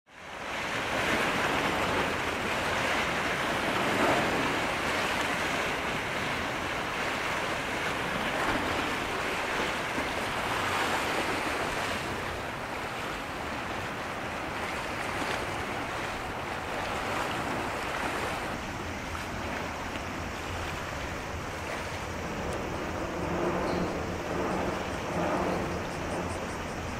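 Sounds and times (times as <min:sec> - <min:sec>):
rushing water: 0:00.1 - 0:26.9
wind buffeting microphone: 0:00.3 - 0:26.9.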